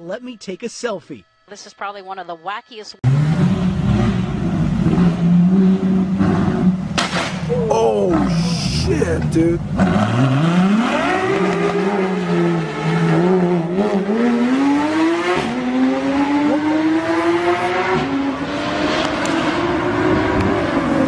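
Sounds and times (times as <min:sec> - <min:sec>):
car engine revving hard: 0:03.0 - 0:07.2, 0:08.0 - 0:21.0.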